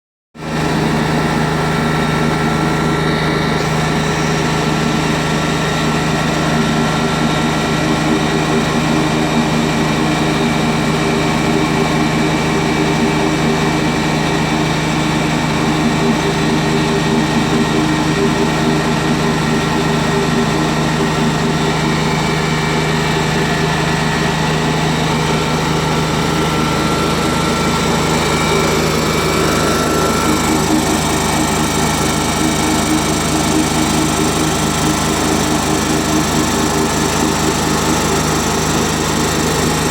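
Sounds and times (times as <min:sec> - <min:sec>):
stump grinder running: 0:00.4 - 0:39.9.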